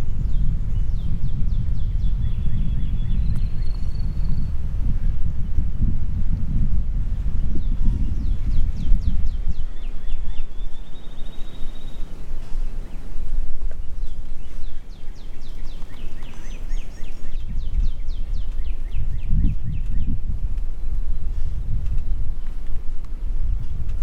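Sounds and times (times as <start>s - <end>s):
songbird singing: 0.0s - 24.0s
wind rumbling on microphone: 0.0s - 24.0s.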